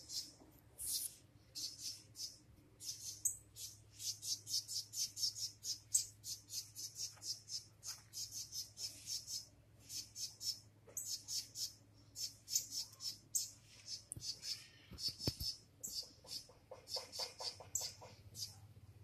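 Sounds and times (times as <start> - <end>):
birds chirping harshly: 0.0 - 18.8.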